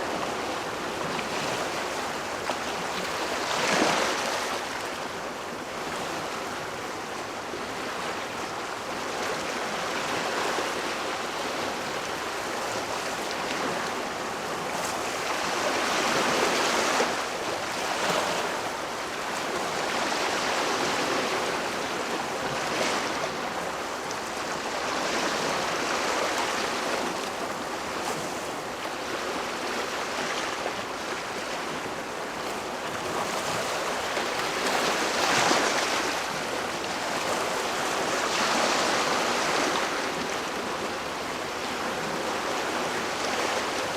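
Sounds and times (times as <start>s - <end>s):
water washing in waves: 0.0s - 43.9s.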